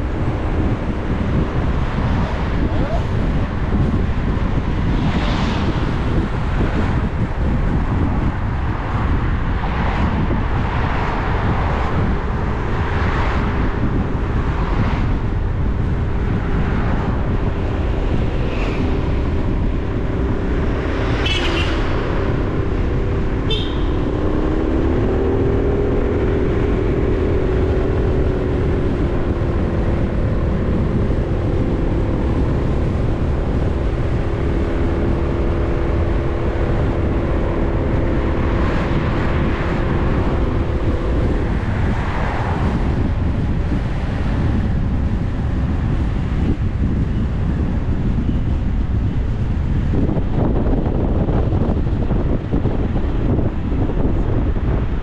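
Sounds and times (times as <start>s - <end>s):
car engine drone: 0.0s - 55.0s
road and wind noise: 0.0s - 55.0s.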